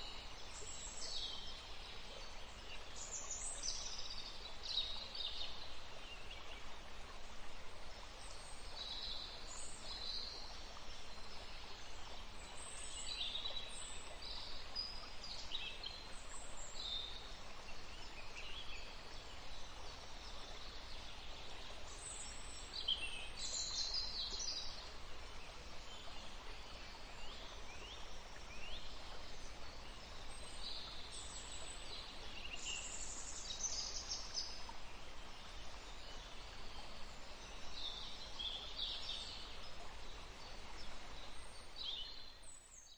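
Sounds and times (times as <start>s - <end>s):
soft background hiss: 0.0s - 42.9s.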